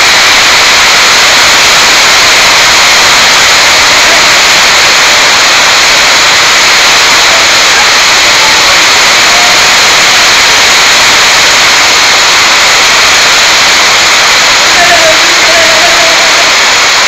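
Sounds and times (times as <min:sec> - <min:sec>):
heavy rain rushing hiss: 0:00.0 - 0:17.0.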